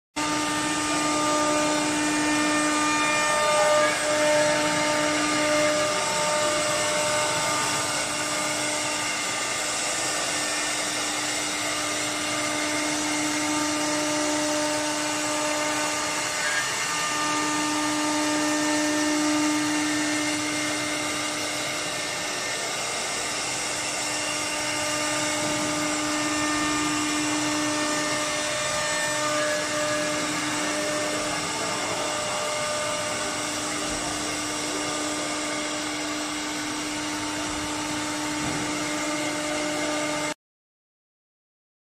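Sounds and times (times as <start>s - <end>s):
router spindle motor whine: 0.2s - 40.4s.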